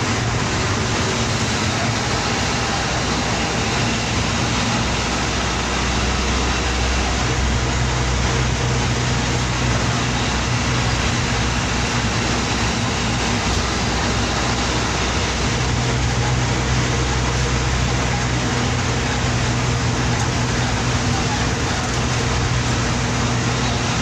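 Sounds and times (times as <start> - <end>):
bus diesel engine droning: 0.0 - 24.0
road noise: 0.0 - 24.0.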